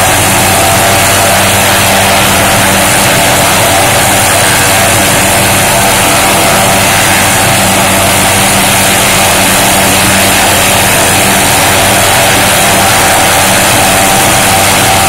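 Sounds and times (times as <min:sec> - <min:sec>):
helicopter rotor noise: 0:00.0 - 0:15.0
helicopter turbine whine: 0:00.0 - 0:15.0.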